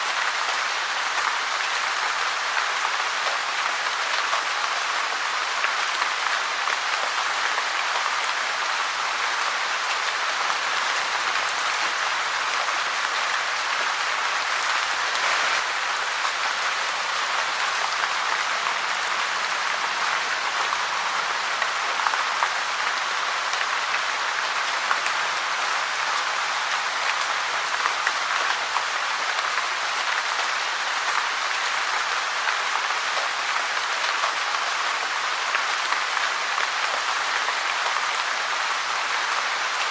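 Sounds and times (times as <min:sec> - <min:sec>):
steady rain with drop patter: 0:00.0 - 0:39.9.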